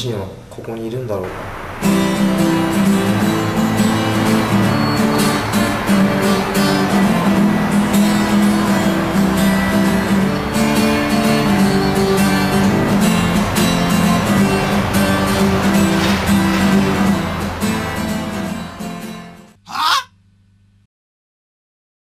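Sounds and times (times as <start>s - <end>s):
strummed guitar music: 1.3s - 19.6s.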